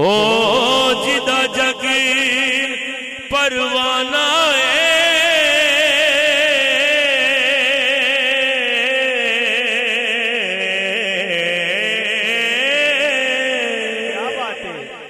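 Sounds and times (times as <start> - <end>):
man singing a long note: 0.0 - 15.0.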